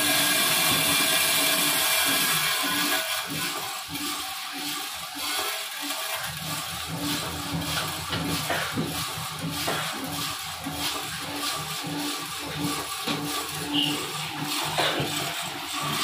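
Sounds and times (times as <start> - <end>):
coffee roaster drum humming: 0.0 - 16.0.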